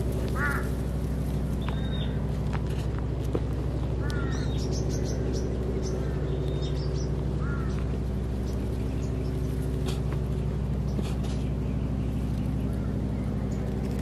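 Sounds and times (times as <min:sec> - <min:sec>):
birds chirping and calling: 0:00.0 - 0:14.0
low machine hum: 0:00.0 - 0:14.0.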